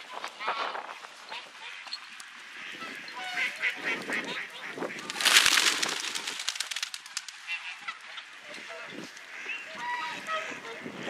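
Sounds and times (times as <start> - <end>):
geese honking: 1.3 - 11.0.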